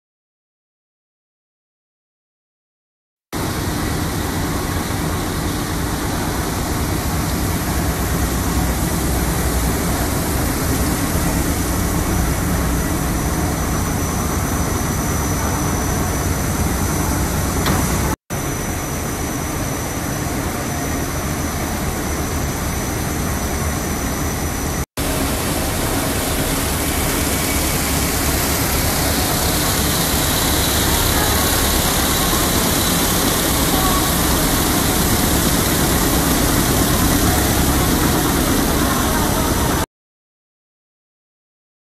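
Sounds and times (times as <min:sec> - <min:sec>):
factory machinery running: 0:03.4 - 0:39.9.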